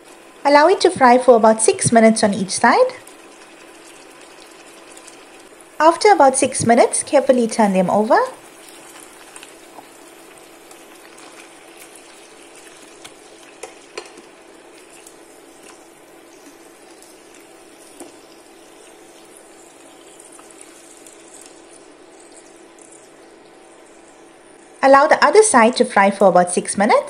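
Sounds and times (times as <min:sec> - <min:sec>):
fish sizzling in oil: 0:00.0 - 0:25.8.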